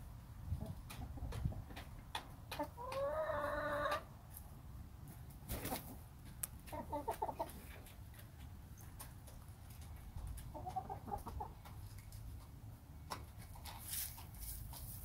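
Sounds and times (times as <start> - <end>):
hens clucking: 0.4 - 4.5, 5.1 - 15.0.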